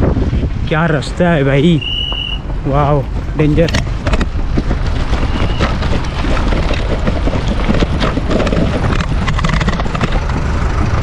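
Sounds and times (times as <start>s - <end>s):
wind rumble on microphone: 0.0s - 11.0s
bicycle clattering over rough road: 2.0s - 11.0s.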